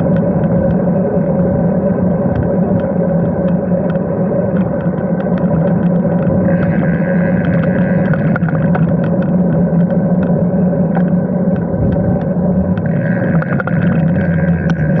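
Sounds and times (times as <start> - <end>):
low hum: 0.0 - 15.0
wind rushing over microphone: 0.0 - 15.0
small clicks: 2.2 - 15.0.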